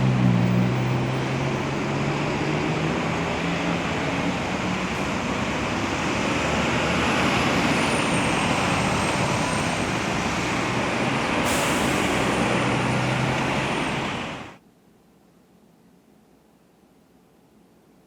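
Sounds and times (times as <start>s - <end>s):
road vehicles passing: 0.0s - 14.6s.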